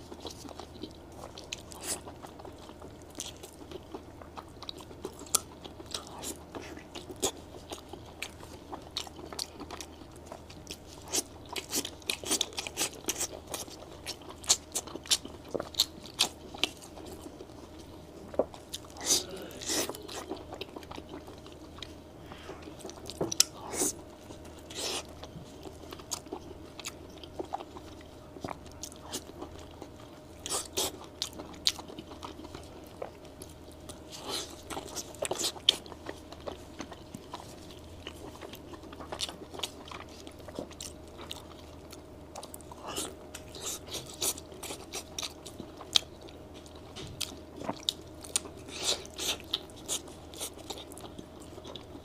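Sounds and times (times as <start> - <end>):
chewing and mouth clicks: 0.1 - 22.0, 22.7 - 52.0.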